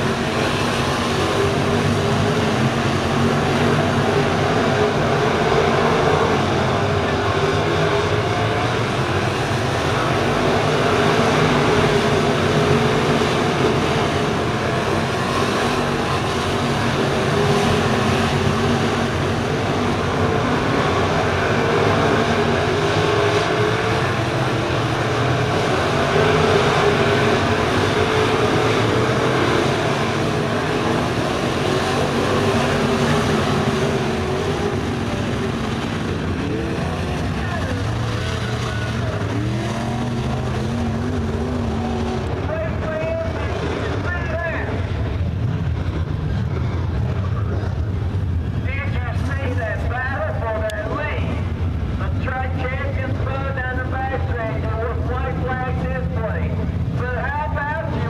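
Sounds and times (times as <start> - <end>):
race car engines roaring: 0.0 - 58.0.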